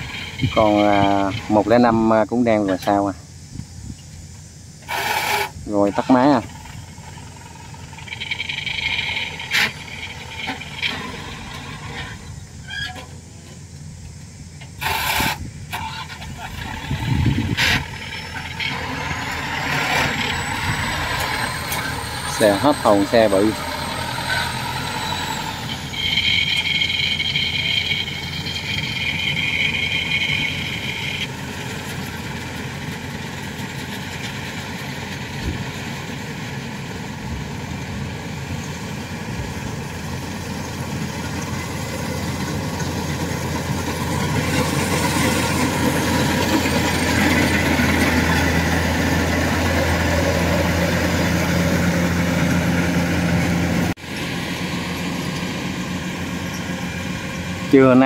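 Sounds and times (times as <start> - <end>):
combine harvester diesel hum: 0.0 - 58.0
tractor engine running: 0.0 - 58.0.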